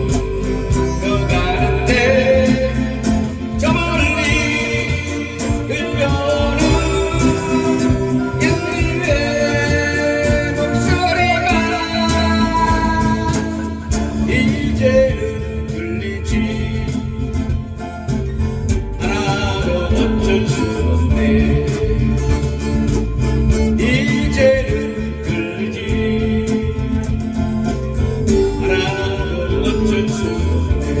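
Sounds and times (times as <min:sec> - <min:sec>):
guitar backing music: 0:00.0 - 0:31.0
person singing: 0:00.0 - 0:31.0.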